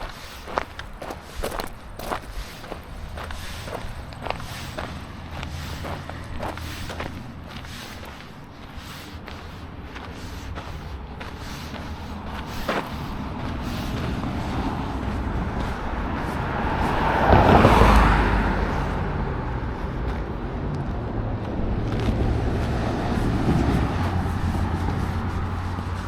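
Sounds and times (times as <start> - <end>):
traffic hum: 0.0 - 26.0
vehicle passing: 0.0 - 26.0.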